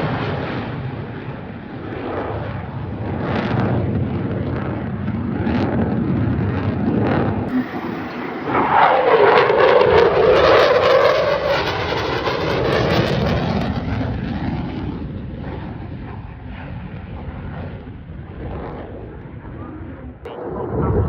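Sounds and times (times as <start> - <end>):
aircraft flying past low: 0.0 - 21.0.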